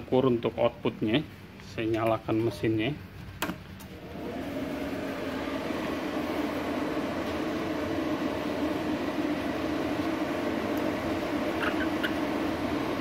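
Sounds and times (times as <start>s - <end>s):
cooling fan humming: 0.0s - 13.0s.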